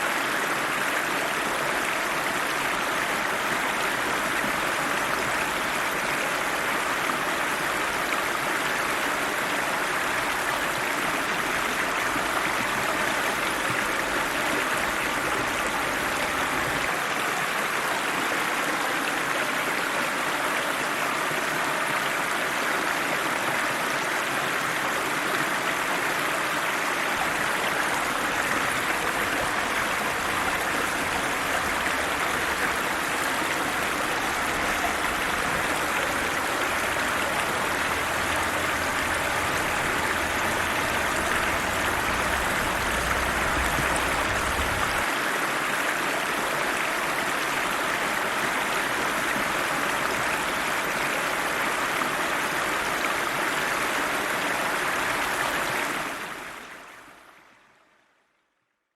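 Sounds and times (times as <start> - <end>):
river water rushing over rocks: 0.0 - 56.6.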